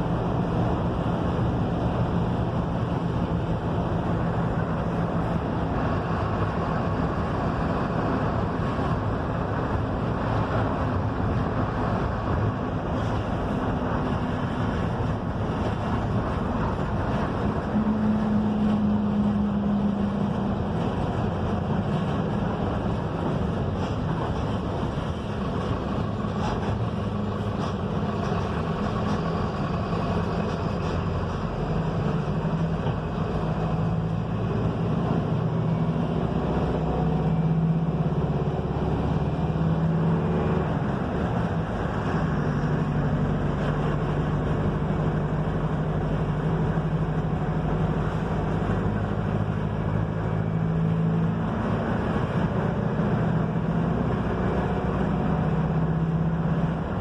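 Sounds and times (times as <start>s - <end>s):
bus engine drone: 0.0s - 57.0s
tyre and road noise: 0.0s - 57.0s.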